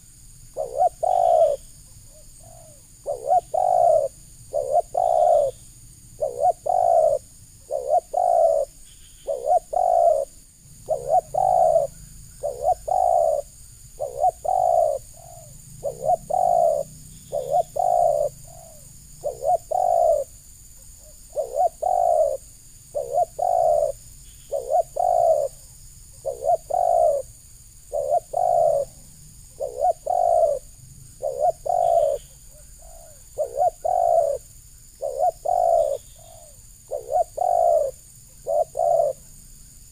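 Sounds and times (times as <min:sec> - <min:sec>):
dove cooing: 0:00.0 - 0:39.3.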